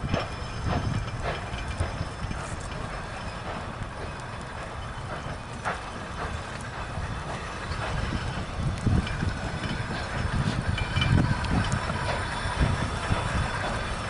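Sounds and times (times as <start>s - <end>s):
train wheels clicking on rails: 0.0s - 14.0s.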